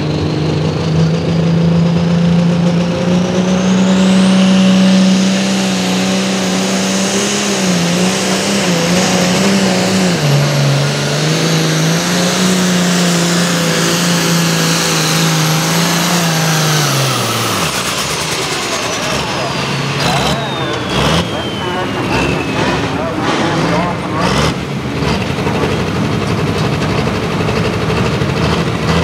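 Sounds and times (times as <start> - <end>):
diesel tractor engine roaring: 0.0 - 29.0
high turbo whine: 0.0 - 29.0.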